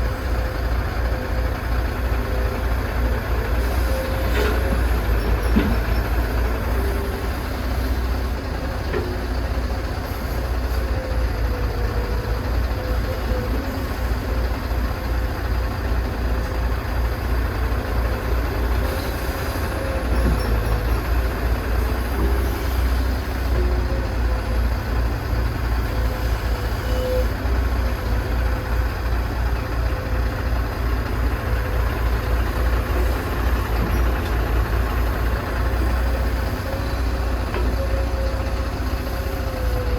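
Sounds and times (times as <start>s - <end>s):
heavy diesel machinery rumble: 0.0s - 39.9s.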